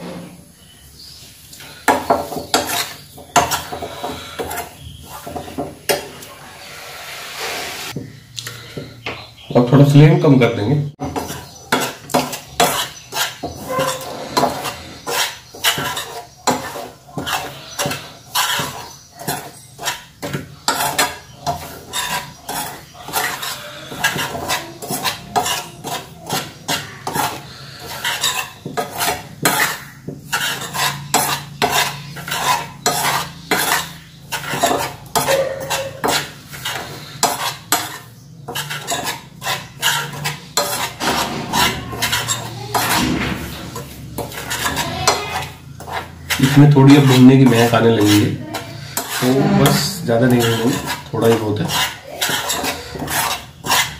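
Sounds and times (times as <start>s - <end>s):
spoon scraping metal frying pan: 1.0s - 8.0s, 11.0s - 53.9s.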